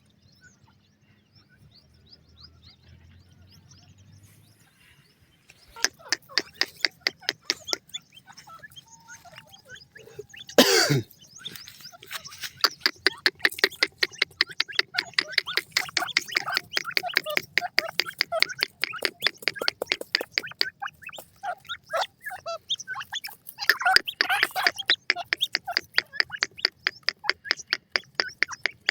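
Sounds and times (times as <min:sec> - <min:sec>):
birds chattering calls: 0:02.6 - 0:28.9
birds sharp clicking notes: 0:05.5 - 0:28.9.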